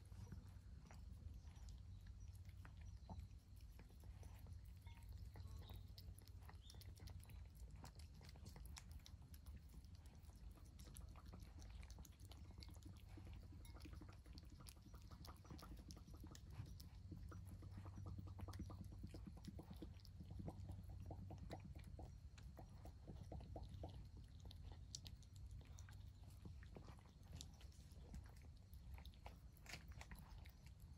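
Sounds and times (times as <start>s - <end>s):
cats chewing wet food: 0.0s - 30.9s.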